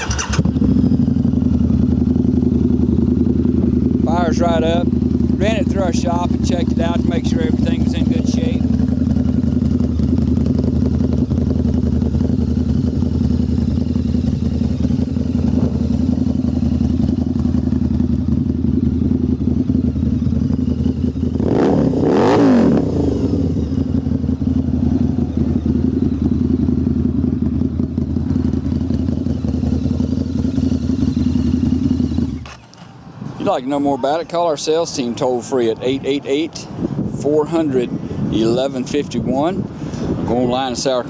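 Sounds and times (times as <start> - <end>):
motorcycle engine idling: 0.0 - 36.2.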